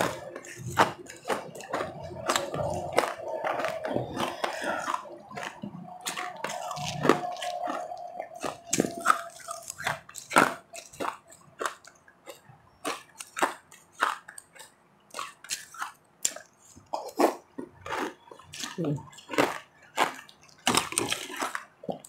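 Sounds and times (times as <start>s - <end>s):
ice crunching between teeth: 0.0s - 22.0s.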